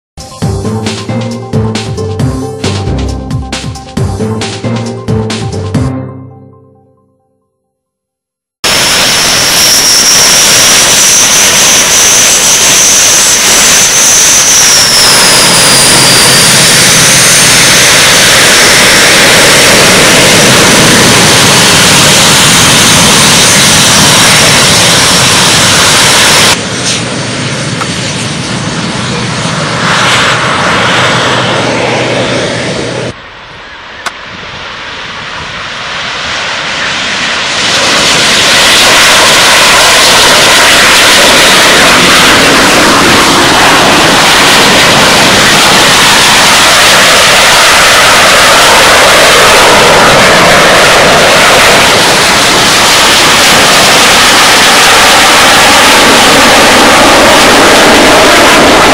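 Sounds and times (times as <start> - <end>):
jet engines with sliding whine: 8.6 - 58.9.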